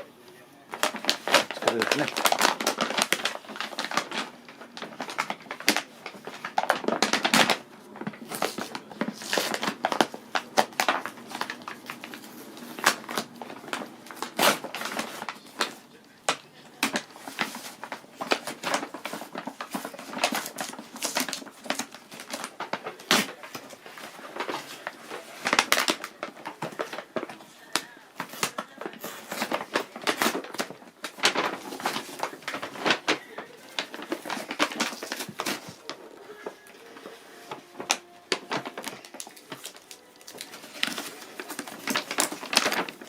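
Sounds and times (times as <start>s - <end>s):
plastic packaging crinkling: 0.0s - 43.0s.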